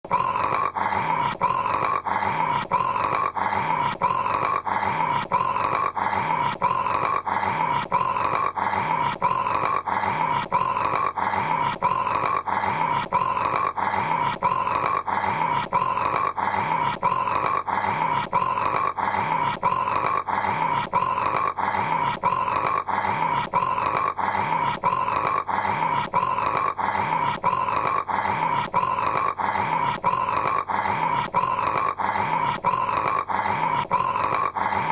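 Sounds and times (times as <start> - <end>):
man snoring: 0.0 - 34.9.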